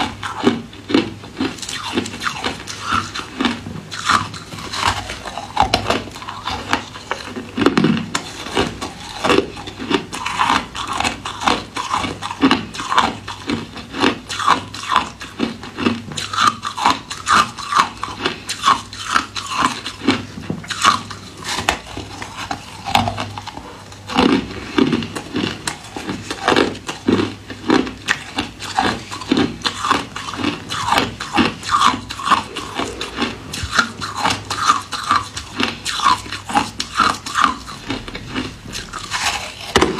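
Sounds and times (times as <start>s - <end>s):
person chewing and crunching ice: 0.0s - 39.9s.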